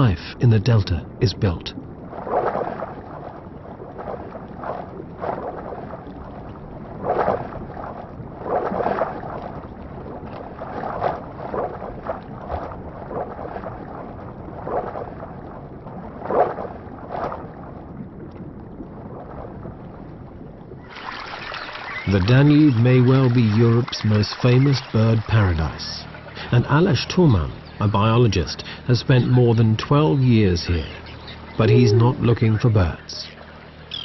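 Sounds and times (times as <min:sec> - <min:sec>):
wind and water hiss: 0:00.0 - 0:34.0
paddle splashing water: 0:01.8 - 0:34.0.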